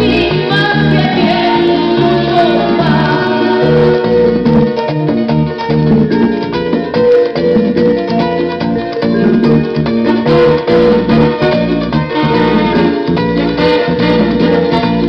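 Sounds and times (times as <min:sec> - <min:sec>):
latin song from vinyl record: 0:00.0 - 0:15.0
plucked-string melody: 0:00.0 - 0:15.0
repeating bass line: 0:00.0 - 0:15.0.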